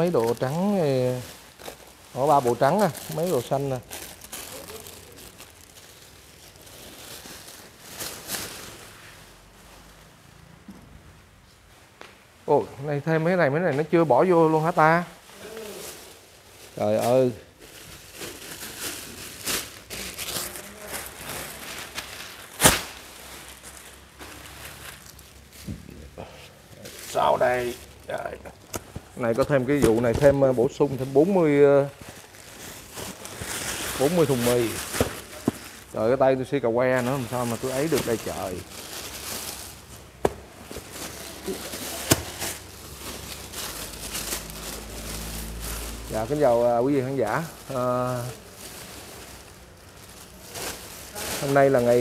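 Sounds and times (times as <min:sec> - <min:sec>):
plastic bag rustling and crinkling: 0:00.0 - 0:10.2, 0:13.8 - 0:52.0.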